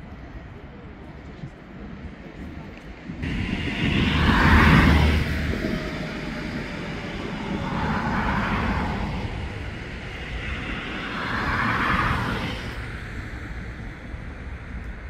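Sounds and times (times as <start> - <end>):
vehicles passing: 2.9 - 15.0.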